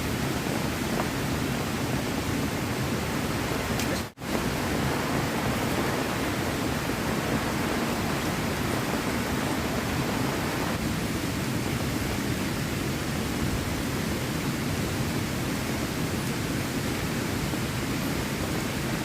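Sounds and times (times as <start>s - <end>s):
heavy rain: 0.0s - 19.0s
running water: 0.0s - 19.0s.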